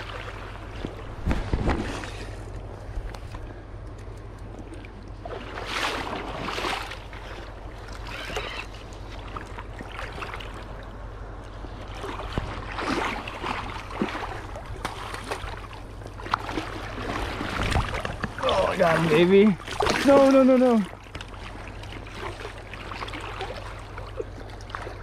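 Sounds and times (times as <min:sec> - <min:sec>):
river water splashing at bank: 0:00.0 - 0:25.0
steady low rumble: 0:00.0 - 0:25.0.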